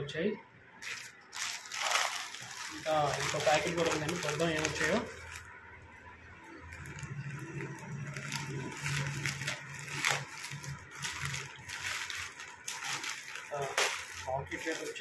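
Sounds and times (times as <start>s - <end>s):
scissors cutting plastic: 0.8s - 5.5s, 6.8s - 15.0s
plastic wrapping crinkling: 0.8s - 15.0s.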